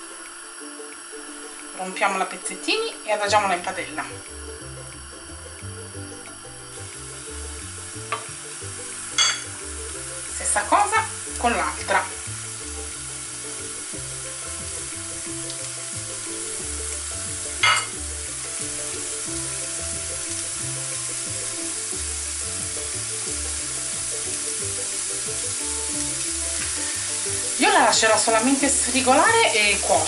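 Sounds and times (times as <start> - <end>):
meat sizzling in a frying pan: 0.0 - 30.0.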